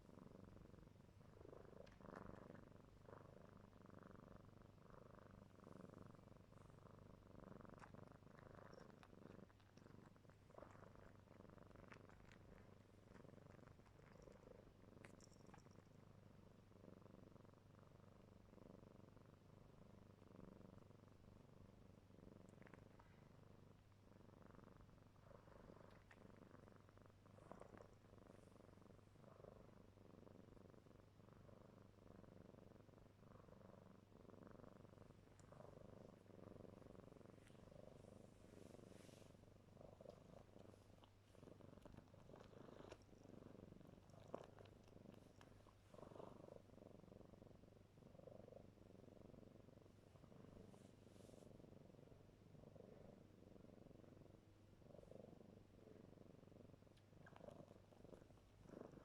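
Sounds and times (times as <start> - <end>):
kitten purring: 0.0 - 59.0.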